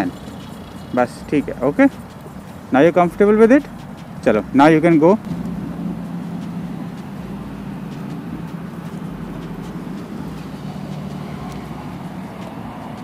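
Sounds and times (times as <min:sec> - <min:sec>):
motor vehicle hum: 0:00.0 - 0:13.0.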